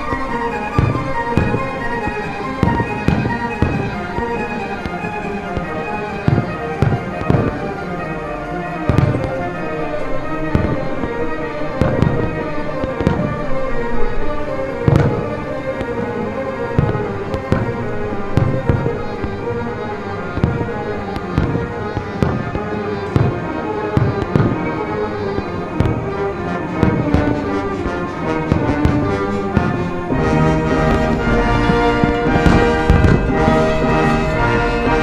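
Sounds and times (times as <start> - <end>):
fireworks bursting: 0.0 - 35.0
orchestral music with brass: 0.0 - 35.0.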